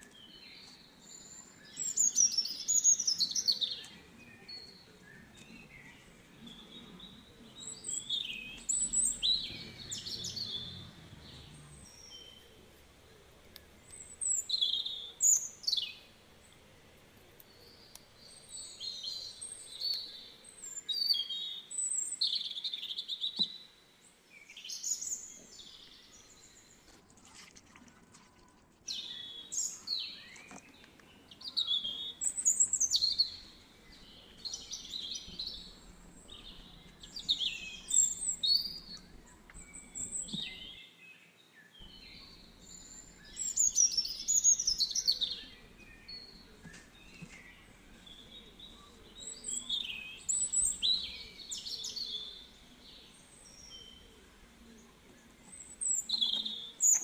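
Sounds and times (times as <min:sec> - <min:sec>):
birds chirping and warbling: 0:00.0 - 0:27.0, 0:28.9 - 0:57.0
faint steady hiss: 0:00.0 - 0:27.2, 0:28.8 - 0:57.0.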